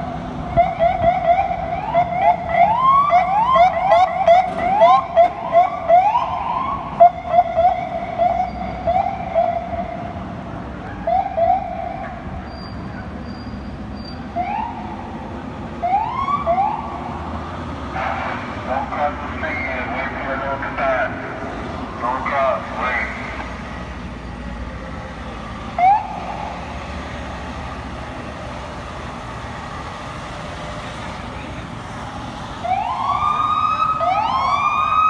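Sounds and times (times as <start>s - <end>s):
emergency sirens yelping and wailing: 0.0s - 35.0s
street traffic hum: 0.0s - 35.0s.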